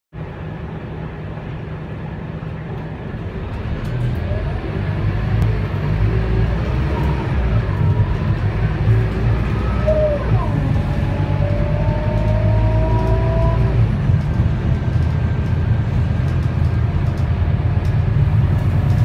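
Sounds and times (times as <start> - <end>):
bus diesel engine hum: 0.2 - 19.0.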